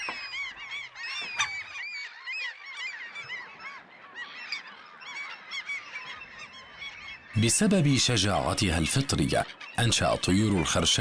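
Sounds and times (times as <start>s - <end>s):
terns calling: 0.0s - 11.0s.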